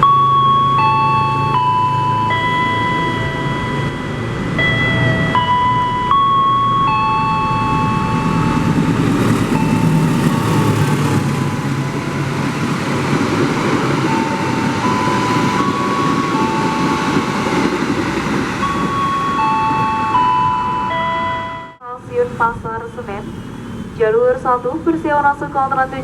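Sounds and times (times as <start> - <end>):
train wheels rumbling on rails: 0.0 - 21.8
high steady tones: 0.0 - 26.0.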